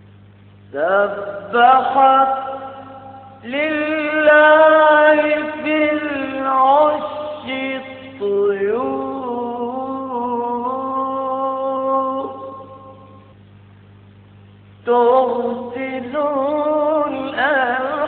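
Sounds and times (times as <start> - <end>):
steady low hum: 0.0 - 18.0
man singing long held notes: 0.7 - 13.2, 14.8 - 18.0.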